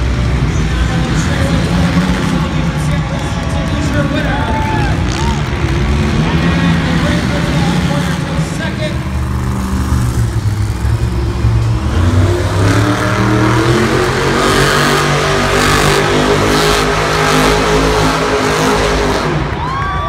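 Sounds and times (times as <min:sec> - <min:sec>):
truck engine revving hard: 0:00.0 - 0:19.8.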